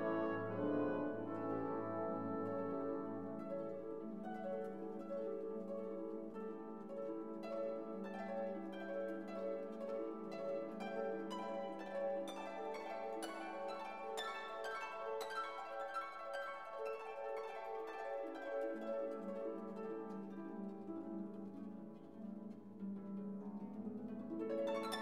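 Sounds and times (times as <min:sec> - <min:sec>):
plucked harp-like music: 0:00.0 - 0:25.0.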